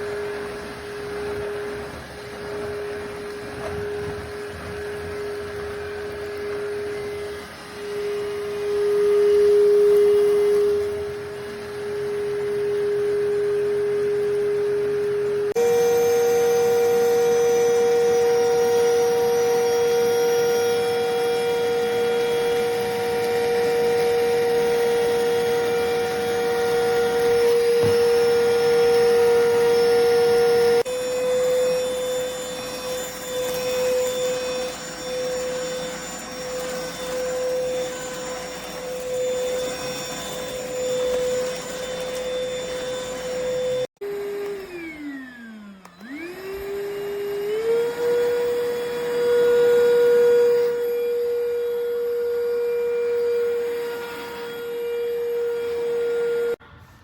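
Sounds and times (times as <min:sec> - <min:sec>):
vacuum motor whine: 0:00.0 - 0:57.0.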